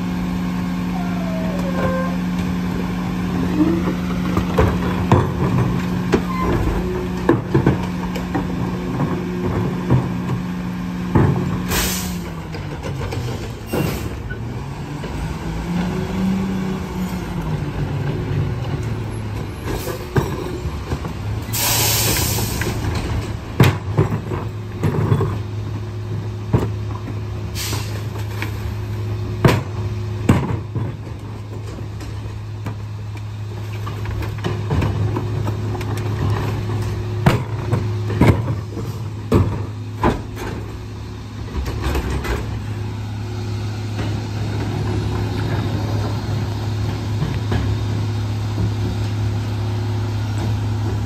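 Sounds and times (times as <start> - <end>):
garbage truck engine running: 0.0 - 51.0
trash carts banging against hopper: 1.0 - 49.6.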